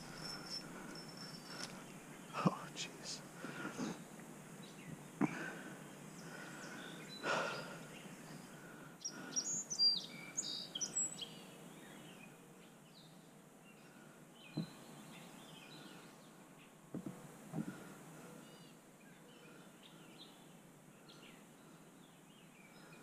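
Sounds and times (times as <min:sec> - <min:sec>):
faint outdoor hiss: 0:00.0 - 0:23.0
songbirds chirping and singing: 0:00.0 - 0:23.0.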